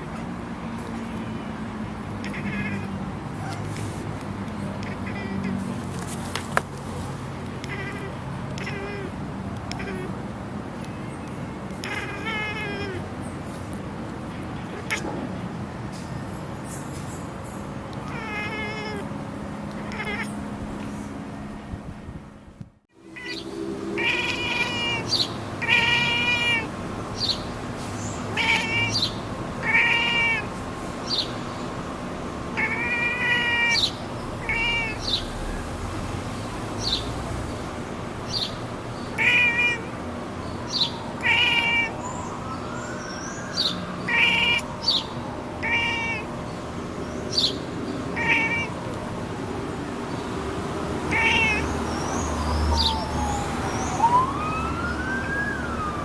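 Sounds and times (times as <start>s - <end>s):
cat chirping: 2.1s - 3.8s, 4.6s - 13.8s, 14.6s - 15.2s, 16.6s - 21.0s, 23.2s - 35.7s, 38.2s - 50.2s, 51.0s - 55.9s.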